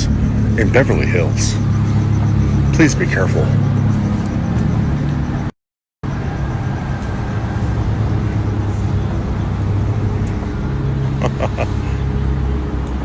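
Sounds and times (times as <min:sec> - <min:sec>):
deep exhaust rumble: 0:00.0 - 0:13.0.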